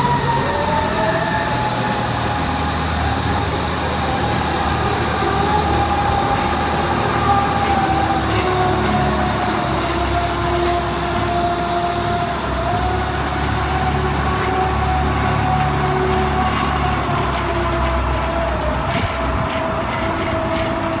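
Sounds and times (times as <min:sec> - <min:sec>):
concrete mixer engine running: 0:00.0 - 0:21.0
steady whine: 0:00.0 - 0:21.0.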